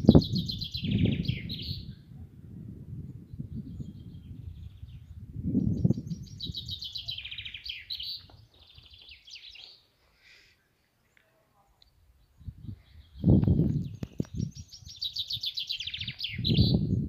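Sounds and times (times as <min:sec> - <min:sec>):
small songbirds chirping: 0:00.0 - 0:02.2, 0:03.0 - 0:17.0.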